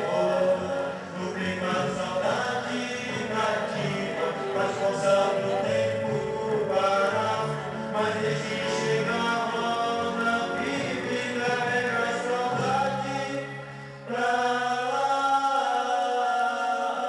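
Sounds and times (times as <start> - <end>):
music of long held notes: 0.0 - 17.0.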